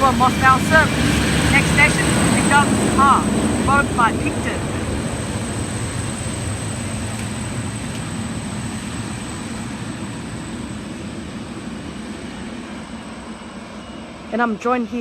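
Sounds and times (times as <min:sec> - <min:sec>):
diesel railcar engine rumble: 0:00.0 - 0:15.0.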